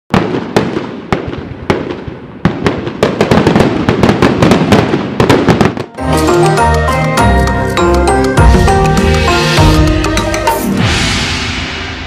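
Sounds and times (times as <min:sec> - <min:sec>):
fireworks bangs and crackling: 0:00.1 - 0:12.0.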